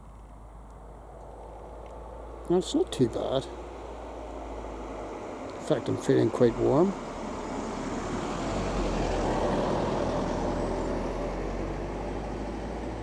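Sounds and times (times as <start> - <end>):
vehicle passing by: 1.9 - 13.0.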